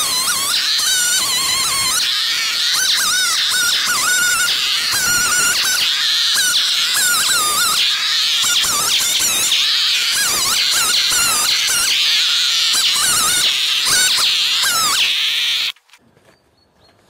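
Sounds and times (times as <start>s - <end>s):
chainsaw cutting wood: 0.0s - 15.8s.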